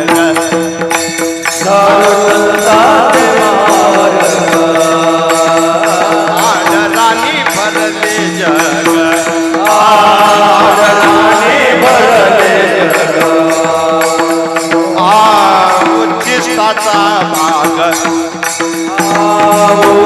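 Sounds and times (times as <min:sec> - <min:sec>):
light percussion beat: 0:00.0 - 0:20.0
man singing long-held notes: 0:00.0 - 0:20.0.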